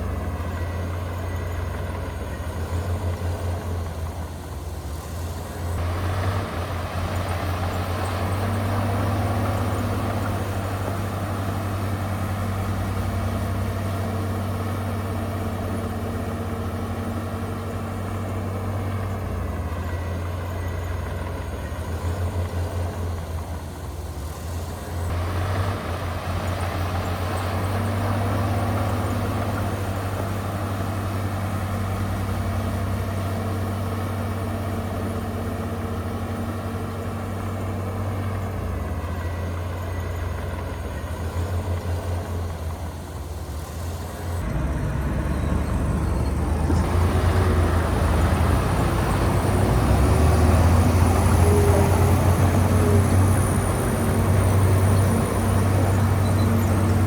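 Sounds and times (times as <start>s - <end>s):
diesel engine droning: 0.0s - 57.0s
heavy mechanical noise: 0.0s - 57.0s.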